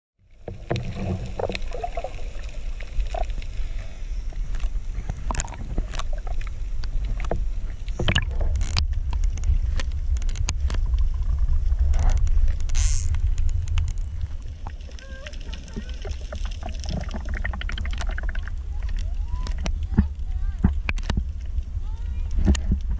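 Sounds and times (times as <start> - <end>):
low underwater rumble: 0.2 - 22.9.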